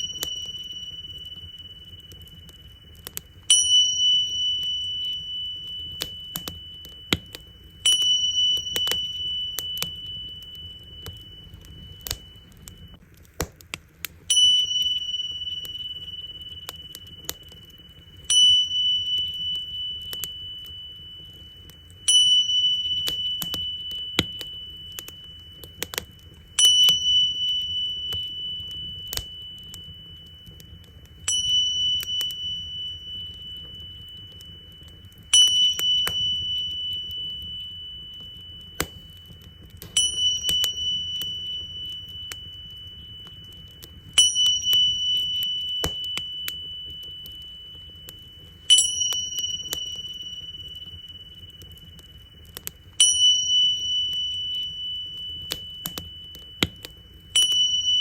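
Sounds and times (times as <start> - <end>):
tingsha cymbals ringing: 0.0 - 13.0, 14.2 - 58.0
wood fire crackling: 0.0 - 58.0.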